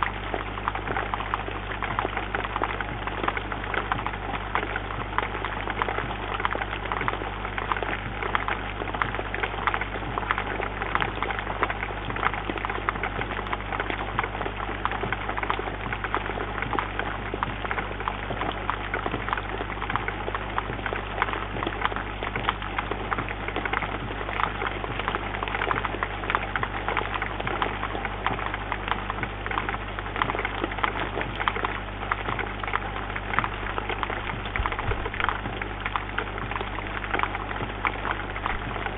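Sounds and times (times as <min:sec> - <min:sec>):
faint low hum: 0:00.0 - 0:38.9
rain pattering on bird feeder: 0:00.0 - 0:38.9.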